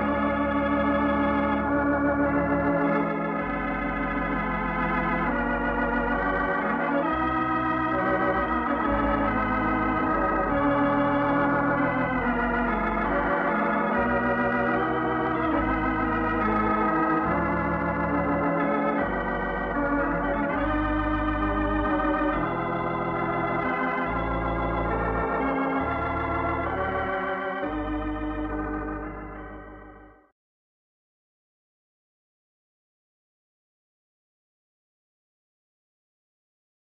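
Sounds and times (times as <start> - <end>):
organ music: 0.0 - 30.3.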